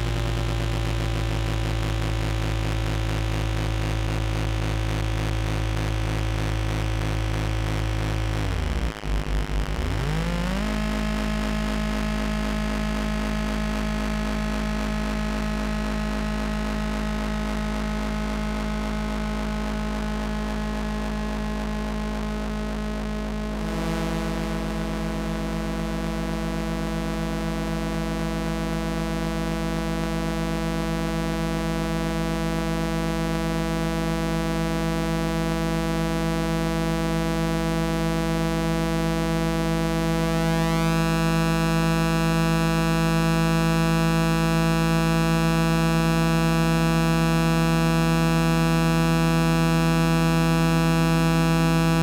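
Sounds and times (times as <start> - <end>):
synthesizer drone: 0.0 - 31.2, 38.0 - 52.0.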